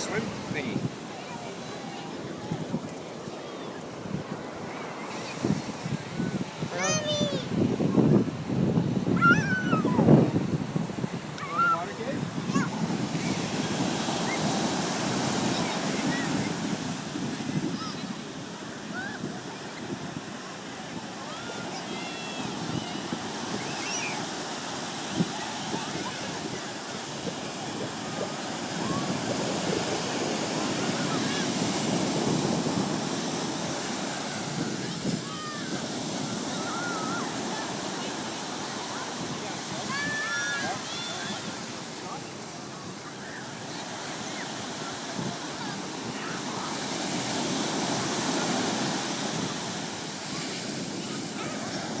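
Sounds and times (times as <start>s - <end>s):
ocean surf washing onto beach: 0.0s - 52.0s
wind on microphone: 0.0s - 52.0s.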